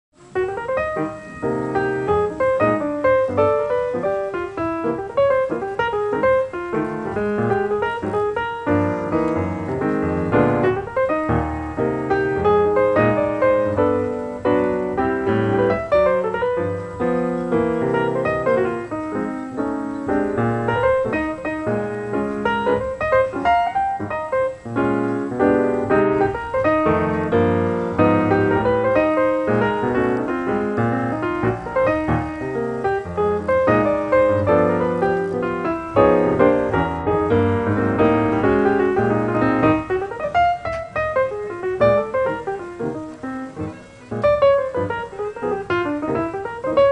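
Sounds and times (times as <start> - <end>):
piano music: 0.1 - 46.9.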